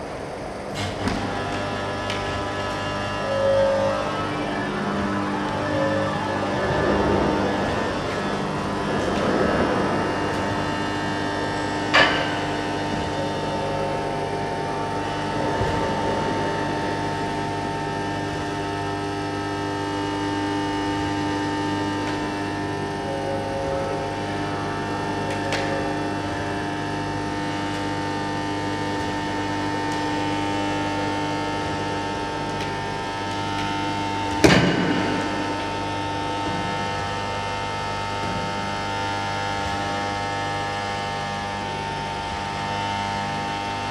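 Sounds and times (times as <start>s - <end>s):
hum of held tones: 0.0s - 43.9s.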